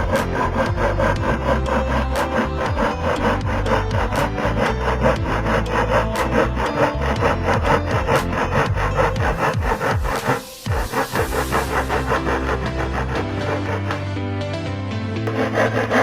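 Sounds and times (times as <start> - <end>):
wood sawing or sanding strokes: 0.0 - 14.1, 15.3 - 16.0.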